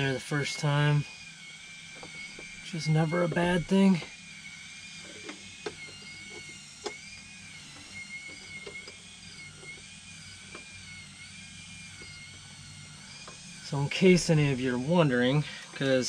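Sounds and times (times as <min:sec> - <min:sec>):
high wavering whine: 0:00.0 - 0:16.0.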